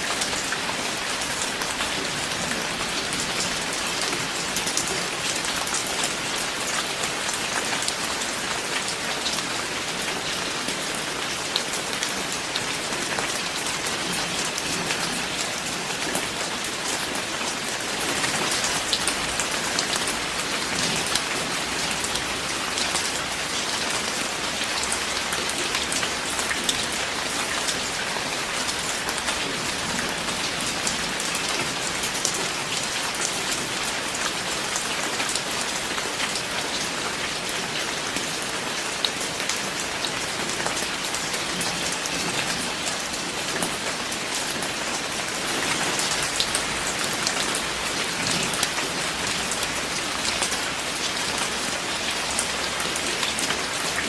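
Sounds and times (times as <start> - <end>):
raindrops striking a surface: 0.0 - 54.0
steady rain falling: 0.0 - 54.0.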